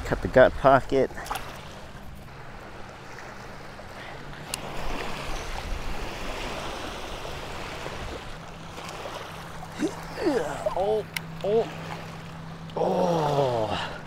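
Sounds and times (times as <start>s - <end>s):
waves lapping against rocky shore: 0.0s - 14.0s.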